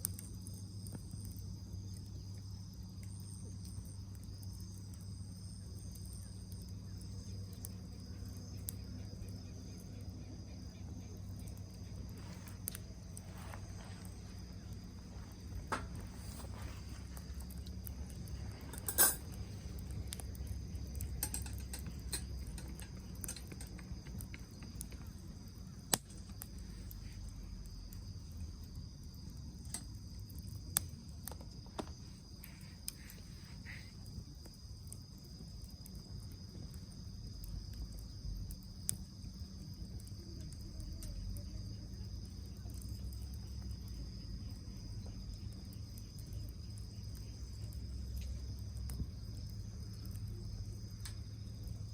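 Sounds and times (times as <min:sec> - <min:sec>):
crickets chirring: 0:00.0 - 0:51.9
fire crackling and popping: 0:00.0 - 0:51.9.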